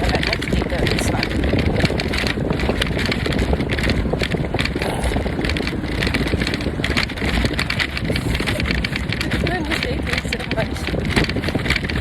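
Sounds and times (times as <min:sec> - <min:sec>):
electric bike rattling over road: 0:00.0 - 0:12.0
wind buffeting microphone: 0:00.0 - 0:12.0.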